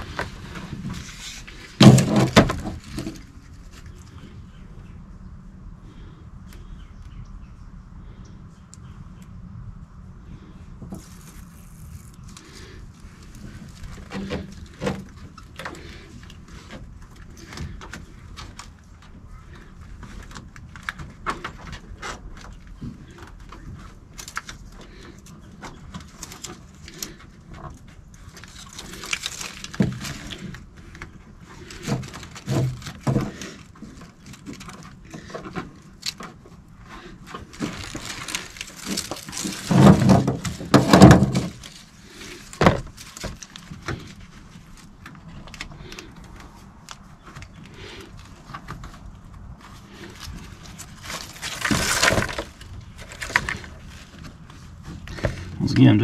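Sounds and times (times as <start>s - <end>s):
rustling and scraping: 0.0s - 4.8s, 10.3s - 56.0s.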